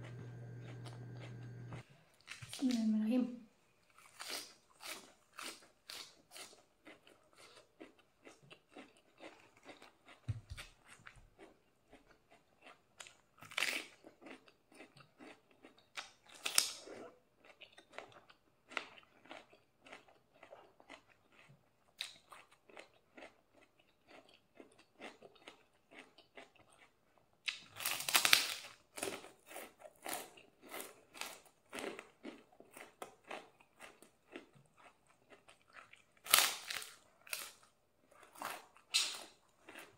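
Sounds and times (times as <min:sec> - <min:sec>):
person chewing crunchy food: 0:00.0 - 0:02.6, 0:03.8 - 0:39.9.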